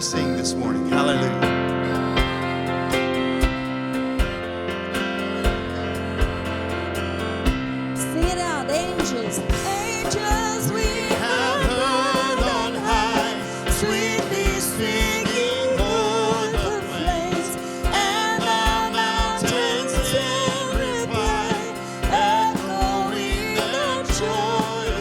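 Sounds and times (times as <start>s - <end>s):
keyboard chords: 0.0s - 25.0s
steady drum beat: 0.0s - 25.0s
voices singing a hymn: 0.0s - 25.0s.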